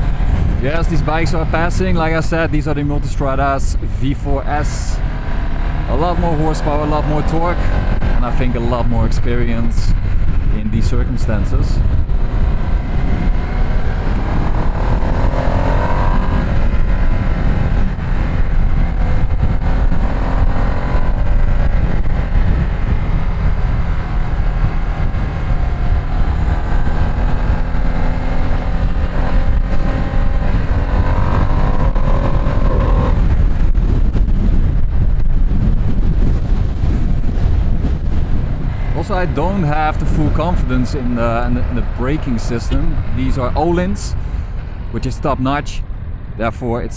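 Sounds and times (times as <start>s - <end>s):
motorcycle engine accelerating: 0.0s - 44.9s
heavy low rumble: 0.0s - 46.9s.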